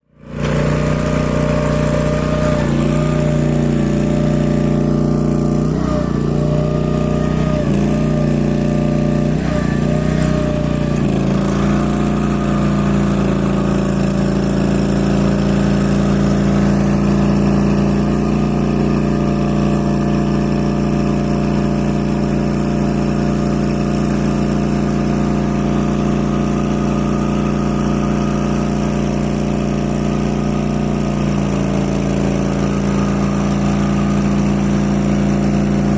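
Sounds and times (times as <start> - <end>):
loader engine and mower drone: 0.0 - 35.9.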